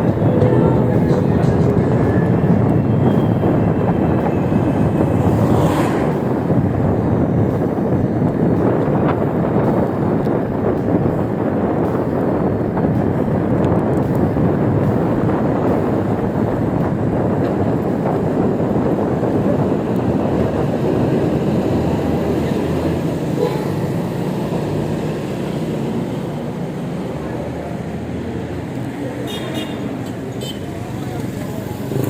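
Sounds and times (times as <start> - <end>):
wind on microphone: 0.0 - 29.2
road noise: 0.0 - 32.0.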